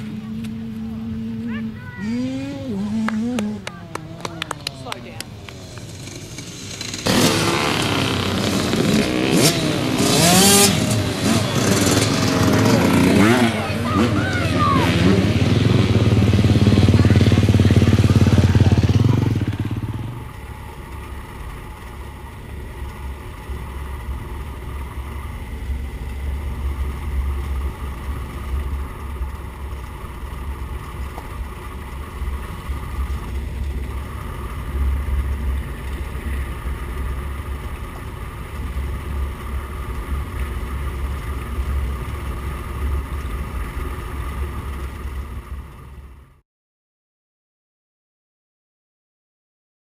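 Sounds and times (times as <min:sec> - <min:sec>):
steady low rumble: 0:00.0 - 0:11.4, 0:12.0 - 0:46.4
racing motorcycle engine: 0:00.0 - 0:46.4.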